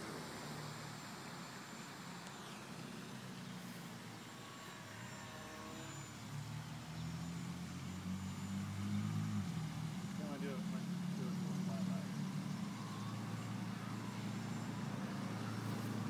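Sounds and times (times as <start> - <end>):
model plane propeller buzzing: 0.0 - 16.0.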